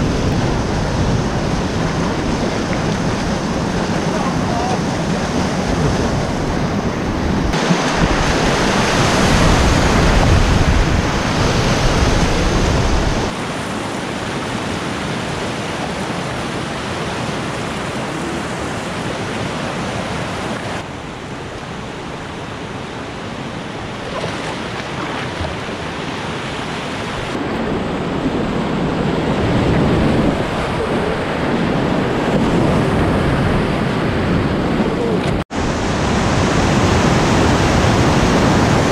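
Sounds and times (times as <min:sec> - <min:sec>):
river rapids rushing: 0:00.0 - 0:27.5, 0:35.1 - 0:38.9.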